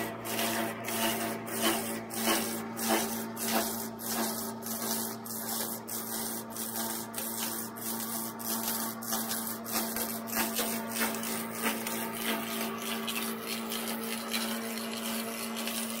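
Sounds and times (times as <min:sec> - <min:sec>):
lathe cutter shaving log: 0:00.0 - 0:15.8
electric motor hum: 0:00.0 - 0:16.0.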